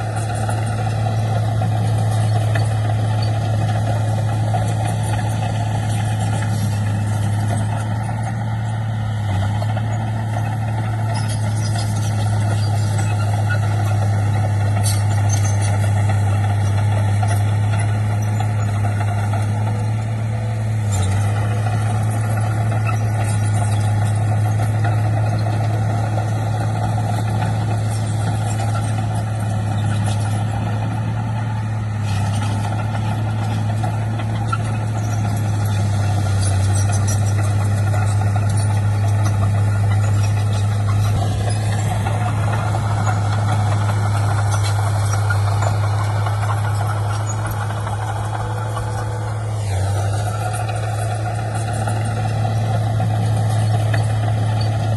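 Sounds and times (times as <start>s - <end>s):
diesel machinery engine running: 0.0s - 54.9s.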